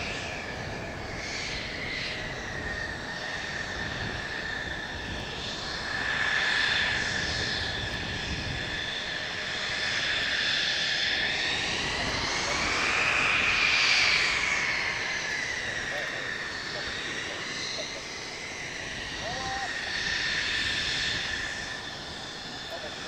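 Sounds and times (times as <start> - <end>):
jet engine whining: 0.0 - 23.0.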